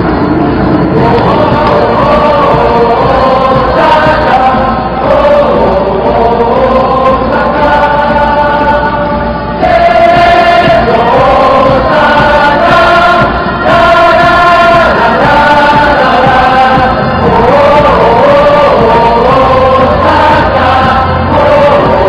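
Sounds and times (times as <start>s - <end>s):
crowd hubbub: 0.0s - 22.0s
stadium crowd singing a chant: 0.0s - 22.0s.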